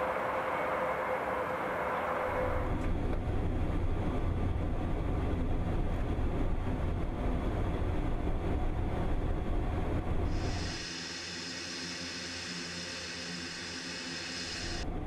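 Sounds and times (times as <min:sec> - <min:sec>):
turboprop aircraft drone: 0:00.0 - 0:15.0.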